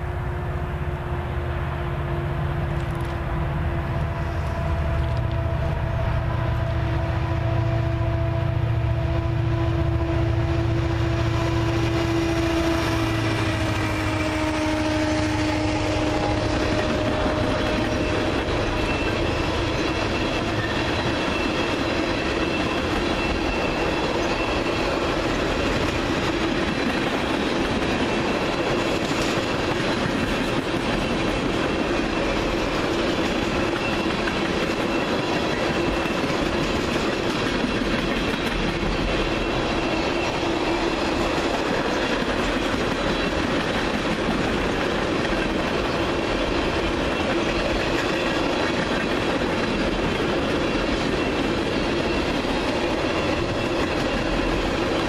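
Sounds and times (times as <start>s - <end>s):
diesel locomotives passing: 0.0s - 55.0s
steel wheels rolling on rail: 0.0s - 55.0s.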